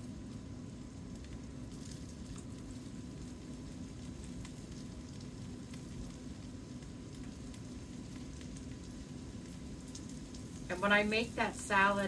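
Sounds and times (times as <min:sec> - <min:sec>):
tofu sizzling in oil: 0:00.0 - 0:12.0.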